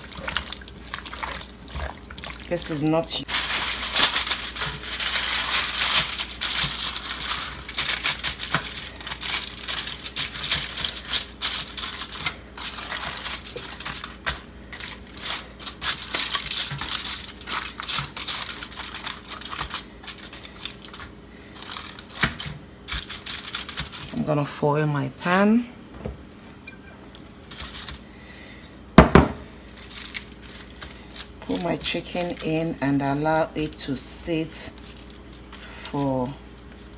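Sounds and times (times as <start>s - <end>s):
aluminium foil crinkling: 0.0s - 24.2s, 27.2s - 28.0s, 29.6s - 36.9s.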